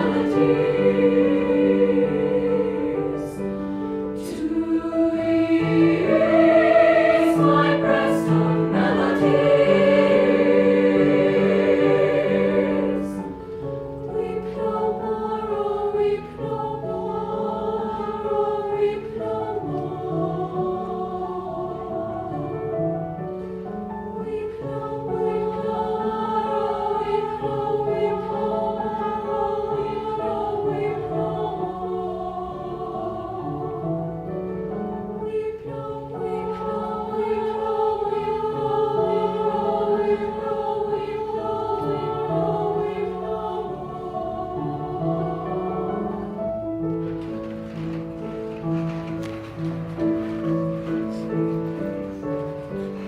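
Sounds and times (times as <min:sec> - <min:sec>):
choir singing chords: 0:00.0 - 0:53.0.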